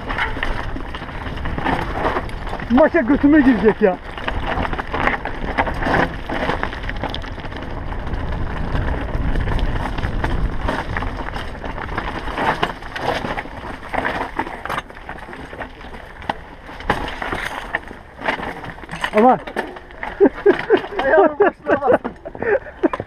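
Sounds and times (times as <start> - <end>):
wind rumble on microphone: 0.0 - 19.2
bike rattling over rocks: 0.0 - 23.0
tyres crunching over gravel: 0.0 - 23.0.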